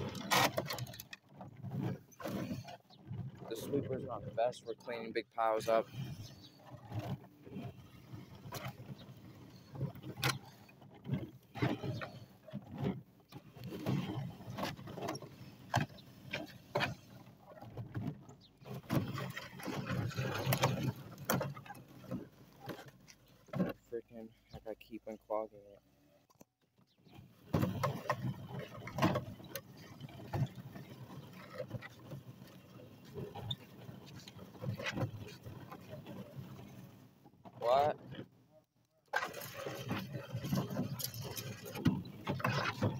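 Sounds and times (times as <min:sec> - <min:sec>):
sweeper wheels rolling: 0:00.0 - 0:25.5, 0:27.1 - 0:38.2, 0:39.1 - 0:42.9.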